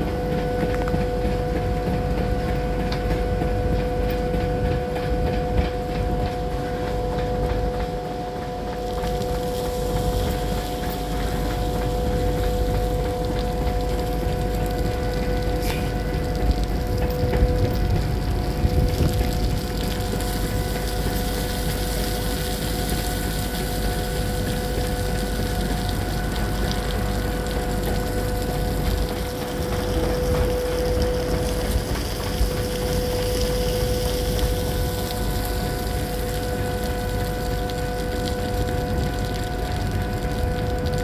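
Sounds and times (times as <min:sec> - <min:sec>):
constant rushing noise: 0:00.0 - 0:41.0
machinery whine: 0:00.0 - 0:41.0.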